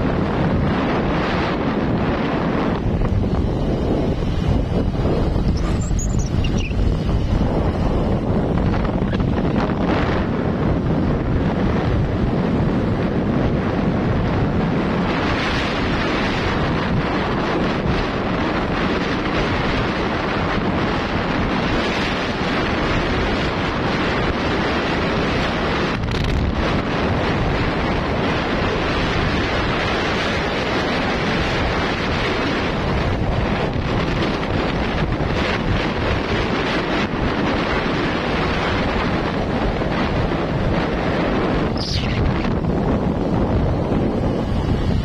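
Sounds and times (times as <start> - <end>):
wind rushing on microphone: 0.0 - 45.0.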